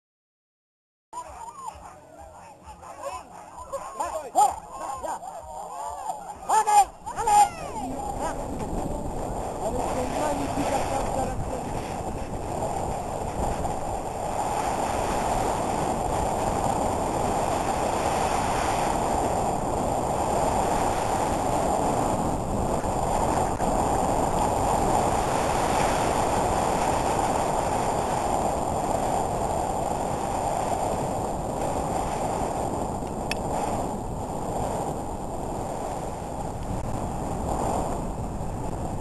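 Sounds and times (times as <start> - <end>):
wind on microphone: 1.2 - 39.0.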